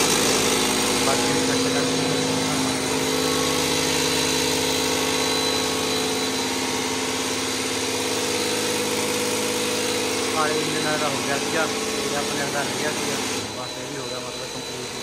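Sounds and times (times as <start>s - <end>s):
test bench mechanical hum: 0.0s - 15.0s.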